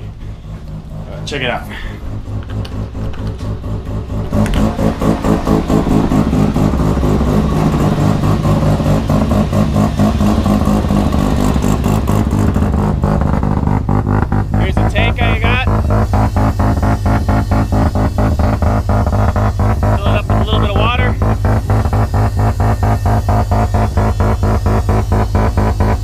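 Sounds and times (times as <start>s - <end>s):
rotary engine idling: 0.0s - 26.0s.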